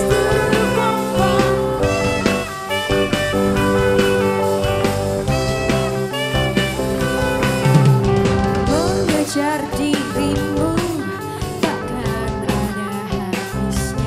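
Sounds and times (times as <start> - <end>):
drum kit: 0.0 - 14.0
electric guitars: 0.0 - 14.0
keyboard: 0.0 - 14.0
saxophone: 0.0 - 14.0.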